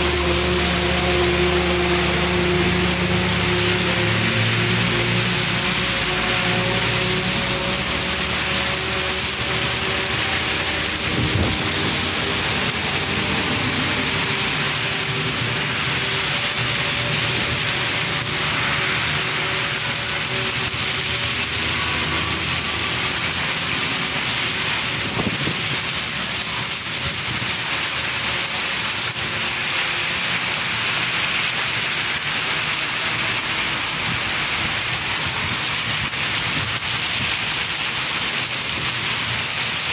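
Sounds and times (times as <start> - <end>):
heavy rain on street: 0.0 - 39.9
runoff splashing on pavement: 0.0 - 39.9.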